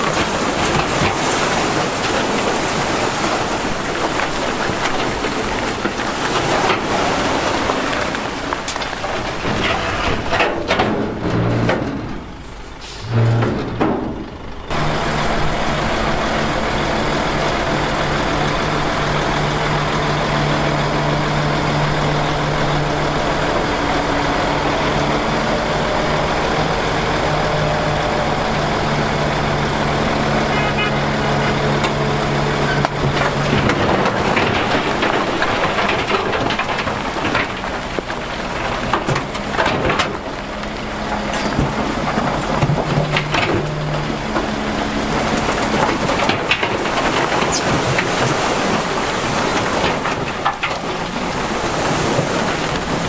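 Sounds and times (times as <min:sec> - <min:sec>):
clattering and crunching: 0:00.0 - 0:12.4, 0:17.4 - 0:53.0
diesel machinery running: 0:00.0 - 0:53.0.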